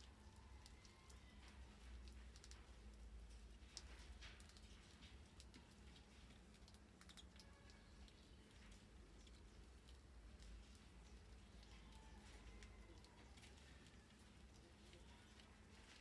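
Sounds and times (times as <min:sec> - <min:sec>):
low steady hum: 0:00.0 - 0:16.0
mice scrabbling on plastic: 0:00.0 - 0:16.0.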